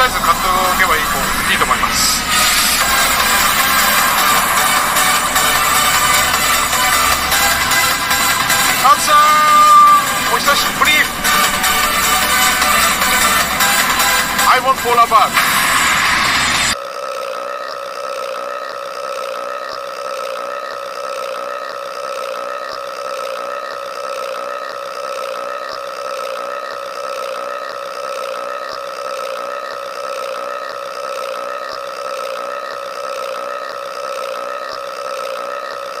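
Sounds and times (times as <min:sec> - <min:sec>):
long cartoon belch: 0:00.0 - 0:36.0.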